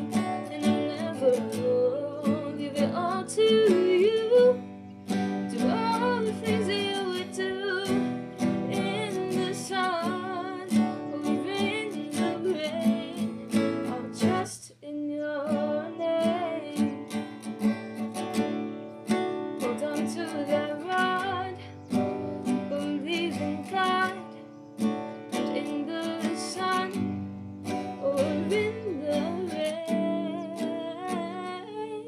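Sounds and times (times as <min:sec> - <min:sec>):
acoustic guitar strumming: 0:00.0 - 0:14.6, 0:15.5 - 0:31.8
woman singing: 0:00.0 - 0:32.0.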